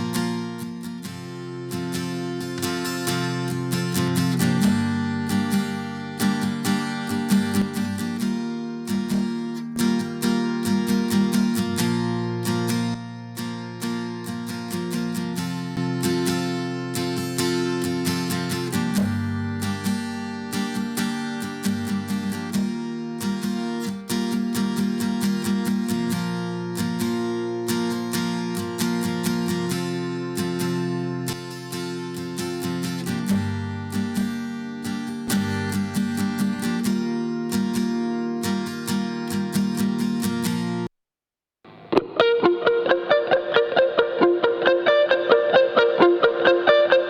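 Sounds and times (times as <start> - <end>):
acoustic guitar strumming: 0.0 - 40.9, 41.7 - 47.0.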